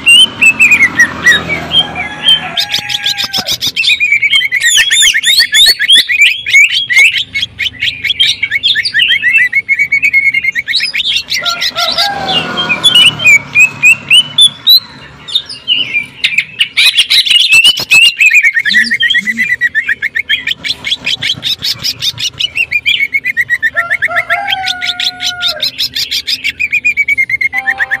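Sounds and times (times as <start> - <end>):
bird chattering song: 0.0 - 28.0.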